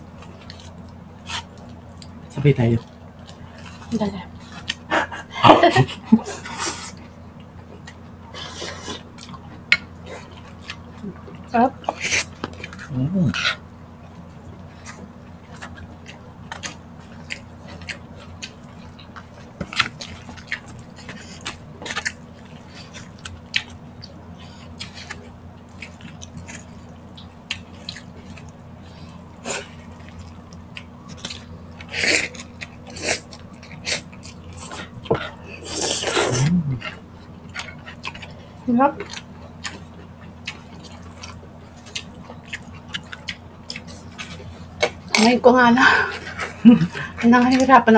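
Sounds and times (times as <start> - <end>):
chewing and wet mouth sounds: 0.1 - 5.2, 6.1 - 47.9.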